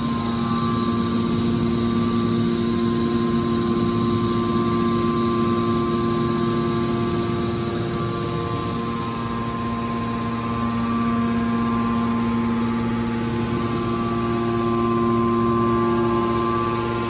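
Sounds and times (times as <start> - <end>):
hydraulic power pack humming: 0.0 - 17.0.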